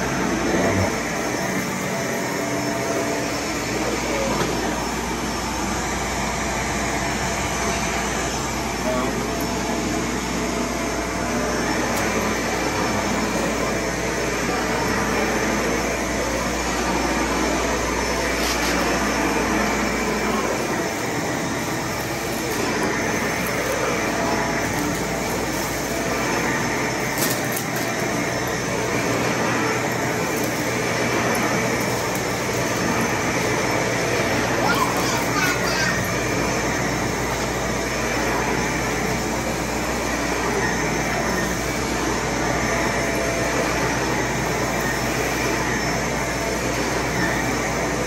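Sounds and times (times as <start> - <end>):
vacuum cleaner running: 0.0 - 48.0.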